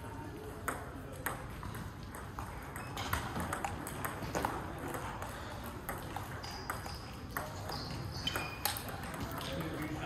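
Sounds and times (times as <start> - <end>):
ping-pong ball clicking: 0.4 - 9.8.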